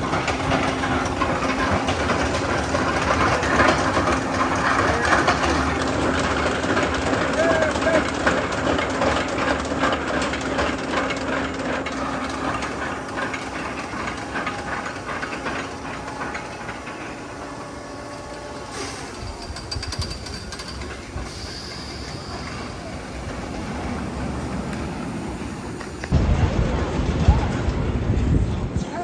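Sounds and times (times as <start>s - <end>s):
roller coaster train on track: 0.0s - 29.0s.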